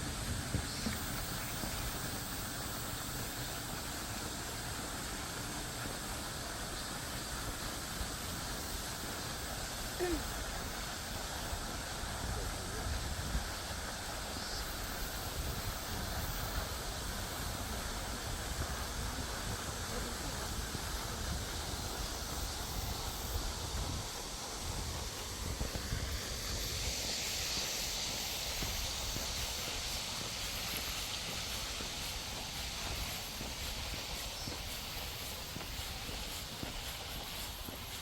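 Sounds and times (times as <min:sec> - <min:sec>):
high even hiss: 0:00.0 - 0:38.0.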